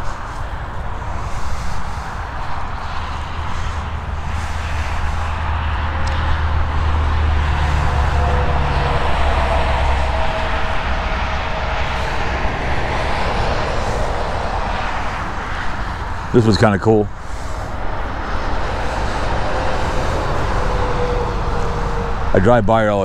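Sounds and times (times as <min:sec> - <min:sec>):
steady noise: 0:00.0 - 0:23.0
large engine rumbling past: 0:03.5 - 0:23.0.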